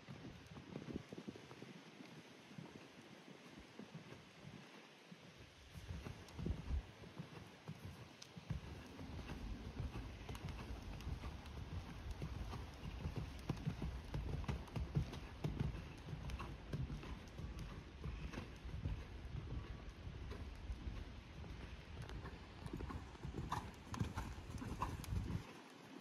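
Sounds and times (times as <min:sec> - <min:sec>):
horse trotting hoofbeats on sand: 0:00.0 - 0:26.0.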